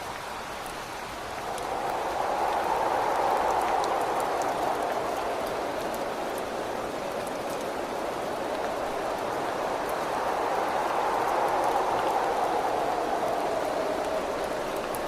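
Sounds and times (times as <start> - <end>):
faint raindrop ticks: 0.0 - 15.0
steady rain hiss: 0.0 - 15.0
wind whistling past a window: 0.2 - 15.0.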